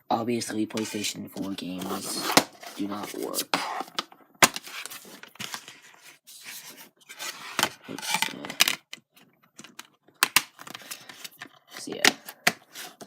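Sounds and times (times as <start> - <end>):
plastic rubbing and scraping: 0.7 - 9.9, 10.6 - 13.0.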